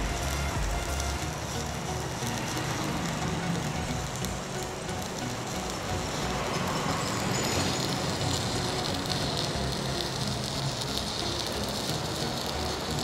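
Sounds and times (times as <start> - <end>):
welding arc crackling sizzle: 0.0 - 13.0.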